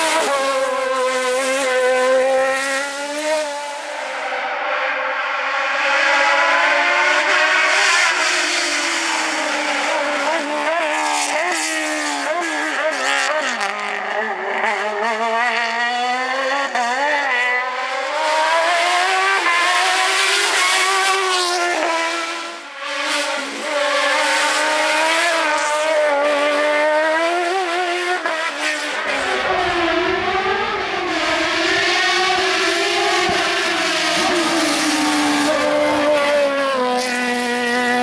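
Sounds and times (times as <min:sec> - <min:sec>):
motorcycle engine revving: 0:04.6 - 0:38.0.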